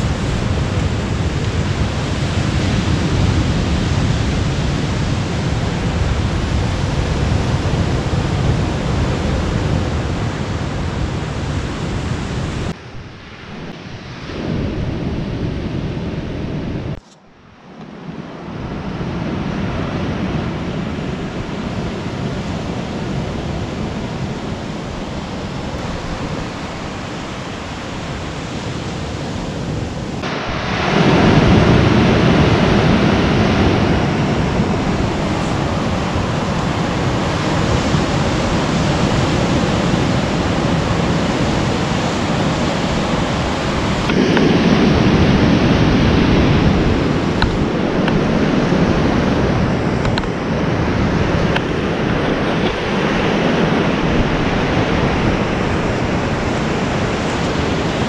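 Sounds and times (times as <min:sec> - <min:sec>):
ocean surf breaking on beach: 0:00.0 - 0:17.0, 0:17.6 - 0:58.0.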